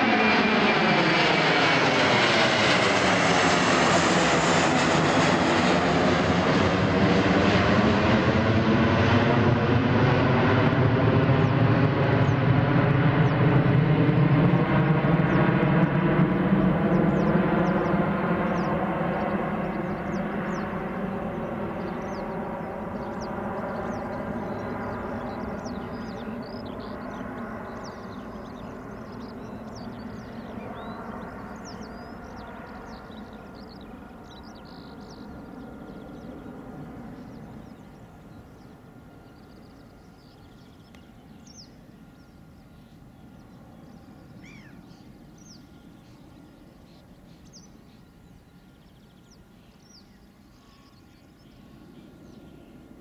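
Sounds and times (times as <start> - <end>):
jet engines roaring: 0.0 - 49.6
birds chirping: 0.0 - 53.0.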